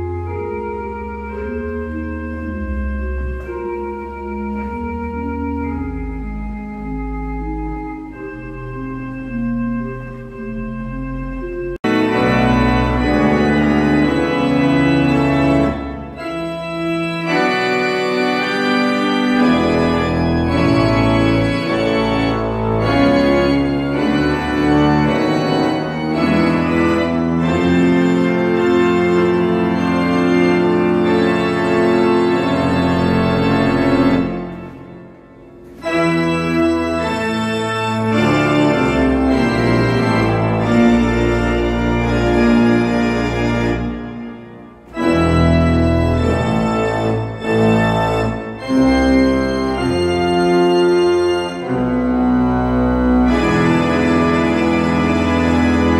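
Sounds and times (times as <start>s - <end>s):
church pipe organ playing: 0.0s - 55.9s.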